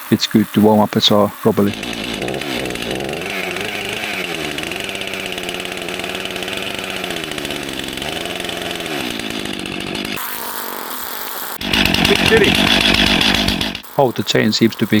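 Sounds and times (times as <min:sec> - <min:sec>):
chainsaw engine running: 0:00.3 - 0:14.7.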